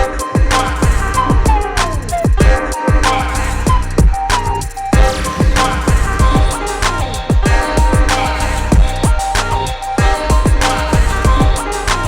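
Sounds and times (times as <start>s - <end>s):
dropping bass notes: 0.0s - 12.0s
drum beat: 0.0s - 12.0s
whistle-like synth lead: 0.0s - 12.0s.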